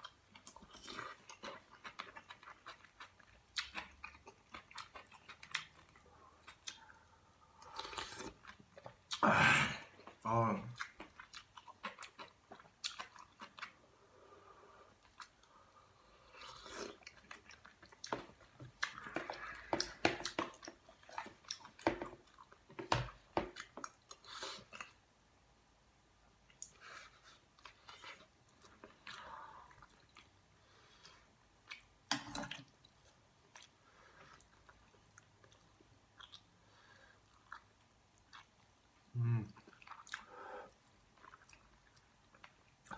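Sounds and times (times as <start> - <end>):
person chewing food: 0.0 - 25.0, 26.5 - 42.9.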